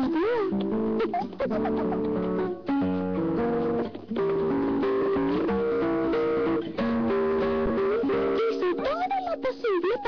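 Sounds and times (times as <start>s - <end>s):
cartoon background music: 0.0s - 10.0s.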